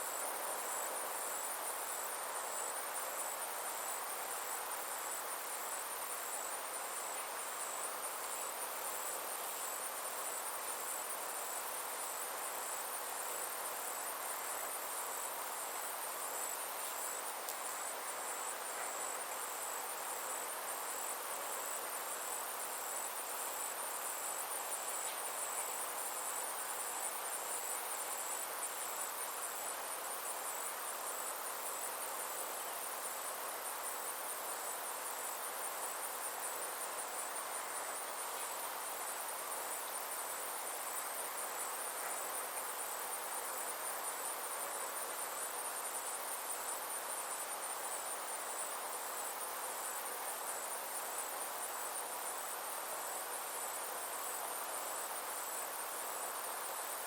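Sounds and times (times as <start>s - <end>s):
insects trilling: 0.0s - 57.0s
soft even hiss: 0.0s - 57.0s.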